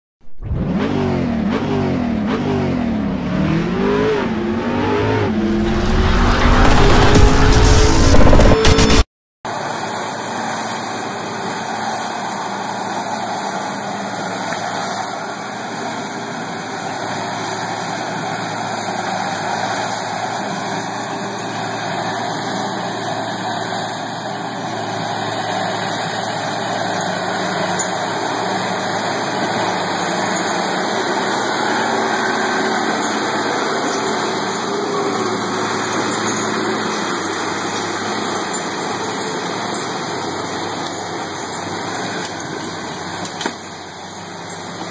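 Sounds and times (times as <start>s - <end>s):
heavy diesel engines running: 0.6s - 44.9s.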